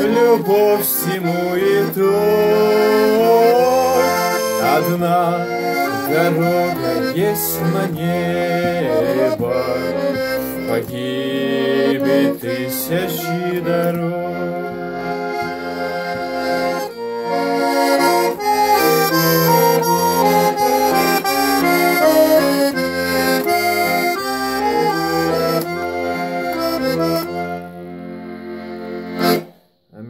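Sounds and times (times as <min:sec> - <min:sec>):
accordion playing a hymn: 0:00.0 - 0:30.0.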